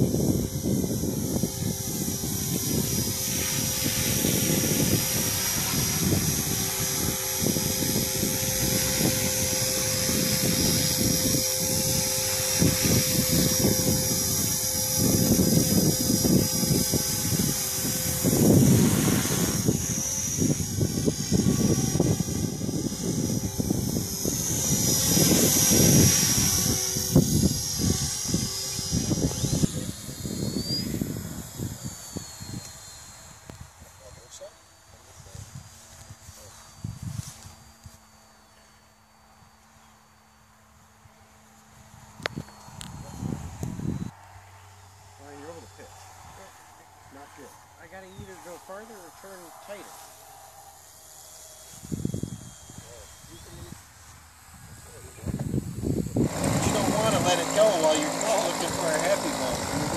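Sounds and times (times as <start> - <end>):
model airplane engine droning: 0.0 - 59.9.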